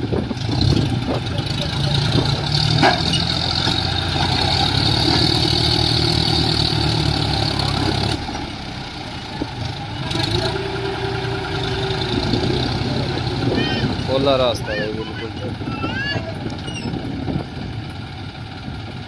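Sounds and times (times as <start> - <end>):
tractor diesel engine working: 0.0 - 19.0.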